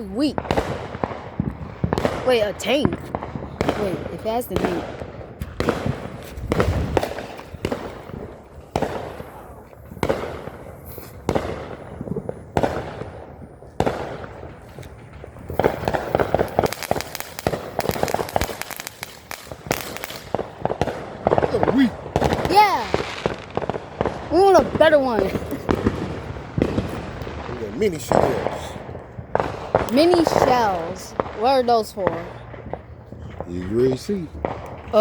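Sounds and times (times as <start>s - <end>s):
firework bangs: 0.0s - 35.0s
firework crackling pops: 0.0s - 35.0s.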